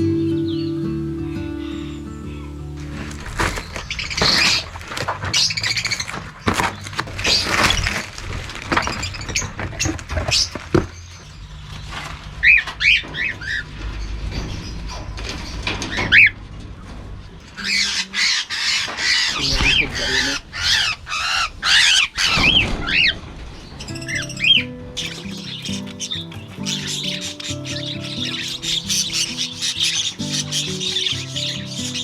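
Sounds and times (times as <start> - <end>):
parrots chirping and calling: 0.0 - 8.0, 8.8 - 16.4, 17.4 - 32.0.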